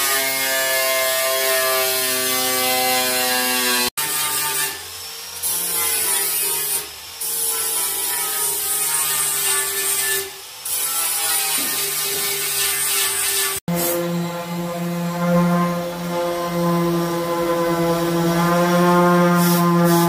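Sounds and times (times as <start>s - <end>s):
angle grinder cutting sheet steel: 0.0s - 20.0s.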